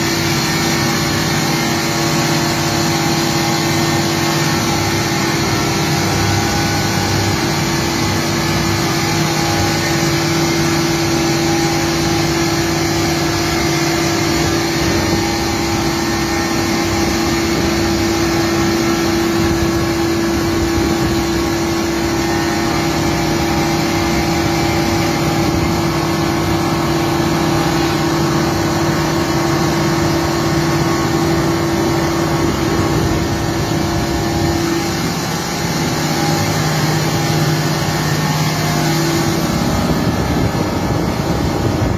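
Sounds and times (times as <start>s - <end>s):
machine mechanical hum: 0.0s - 41.9s.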